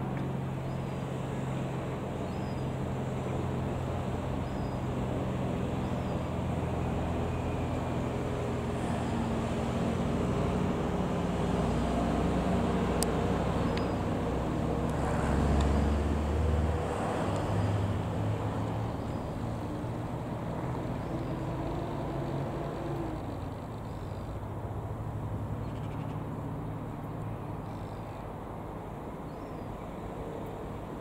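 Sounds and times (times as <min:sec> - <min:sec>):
propeller aeroplane passing: 0:00.0 - 0:27.4.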